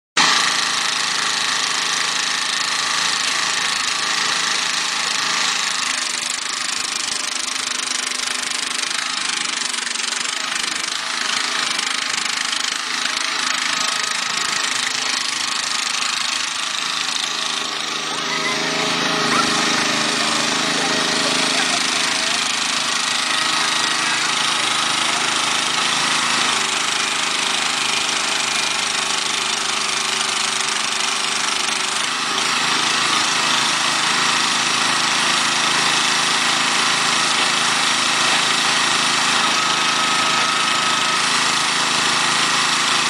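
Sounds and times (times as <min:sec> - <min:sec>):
small tractor engine running: 0:00.2 - 0:43.0.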